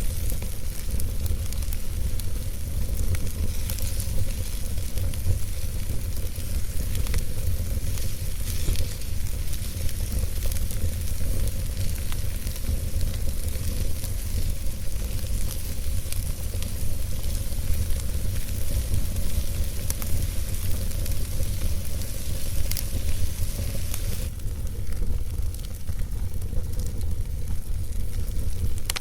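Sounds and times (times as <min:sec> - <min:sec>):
campfire hissing and crackling: 0:00.0 - 0:29.0.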